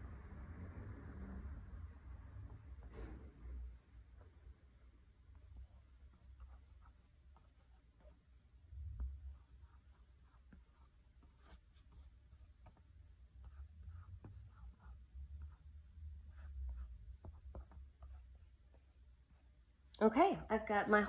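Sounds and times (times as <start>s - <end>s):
paintbrush strokes on canvas: 0.0s - 19.9s.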